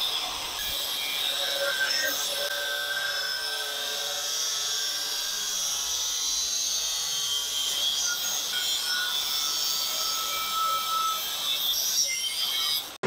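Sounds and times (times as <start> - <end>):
angle grinder cutting steel: 0.0 - 13.0.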